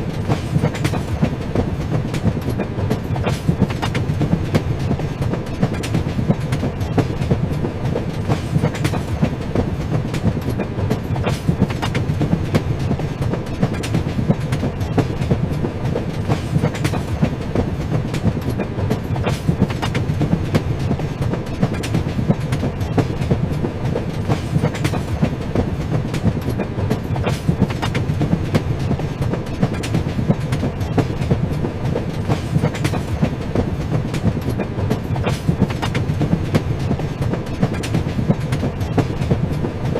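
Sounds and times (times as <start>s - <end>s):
train rumbling: 0.0s - 39.9s
wheels clacking over rail joints: 0.0s - 39.9s.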